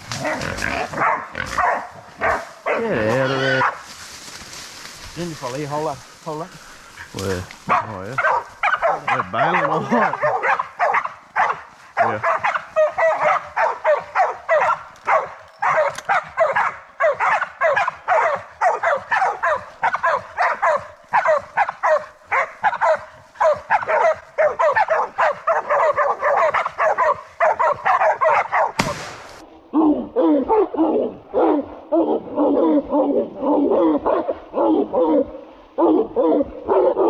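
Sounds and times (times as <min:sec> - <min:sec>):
dogs barking rapidly: 0:00.0 - 0:03.9, 0:07.0 - 0:28.9, 0:30.1 - 0:37.0.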